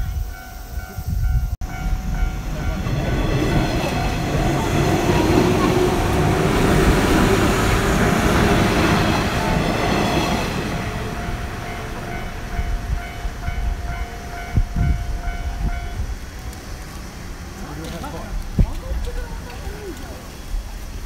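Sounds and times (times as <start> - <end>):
steady tone: 0.0 - 17.5
train rumbling past: 0.0 - 21.0.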